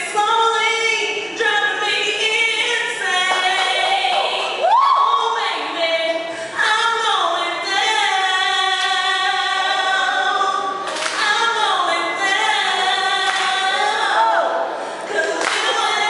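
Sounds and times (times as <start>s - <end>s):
woman singing a cappella: 0.0s - 16.0s.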